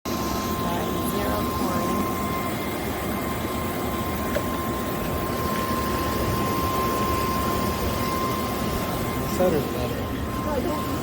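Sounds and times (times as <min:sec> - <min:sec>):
pump motor whine and rumble: 0:00.1 - 0:11.0.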